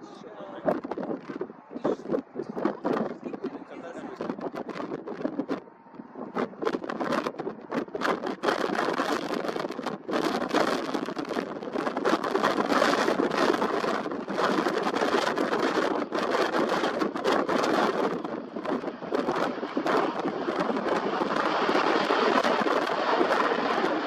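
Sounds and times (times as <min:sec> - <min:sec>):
jet engine passing: 0:01.8 - 0:24.0.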